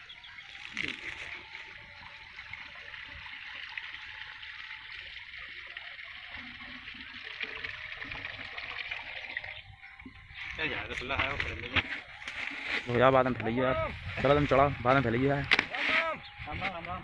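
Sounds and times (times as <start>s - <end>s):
water pouring: 0.0s - 16.2s
water gurgling: 0.0s - 16.5s.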